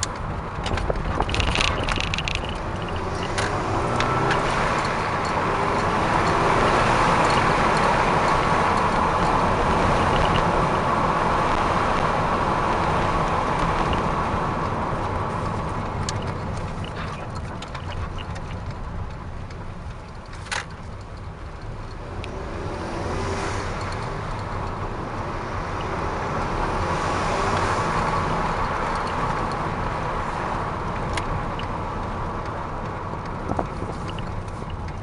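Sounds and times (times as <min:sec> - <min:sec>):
car engine running: 0:00.0 - 0:35.0
road noise: 0:00.0 - 0:35.0.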